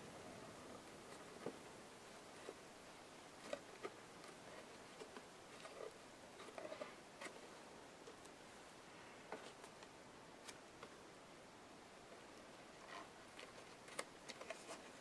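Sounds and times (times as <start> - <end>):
soft rustles of cardboard book: 0.7 - 11.2, 12.0 - 15.0.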